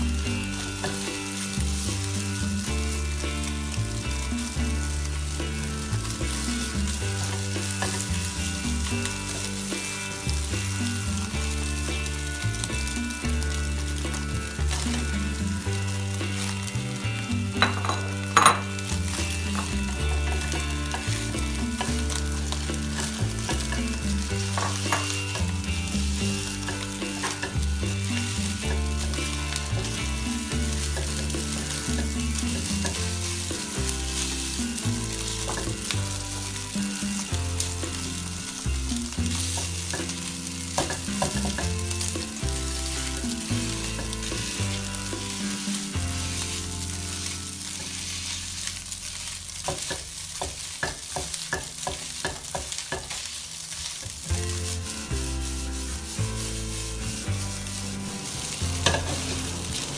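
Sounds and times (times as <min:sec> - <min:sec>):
rice sizzling in a wok: 0:00.0 - 0:59.9
spatula scraping a pan: 0:00.0 - 0:59.9.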